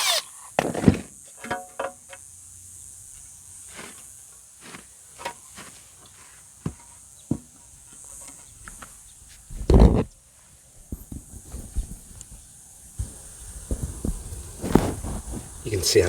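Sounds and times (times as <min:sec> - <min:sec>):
steady high hiss: 0:01.2 - 0:16.0.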